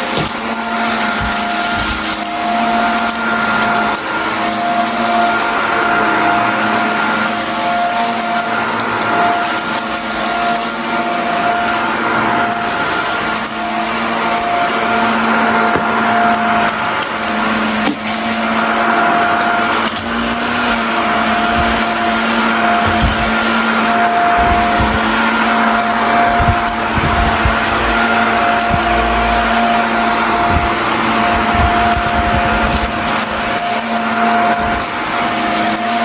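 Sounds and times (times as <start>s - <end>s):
debris crackling in vacuum: 0.0s - 36.0s
vacuum cleaner running: 0.0s - 36.0s.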